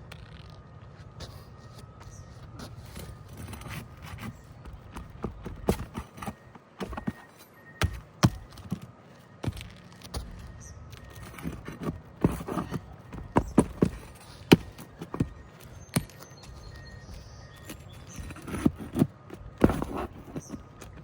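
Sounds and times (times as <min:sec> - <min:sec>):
hand tools tapping on roof shingles: 0:02.9 - 0:21.0.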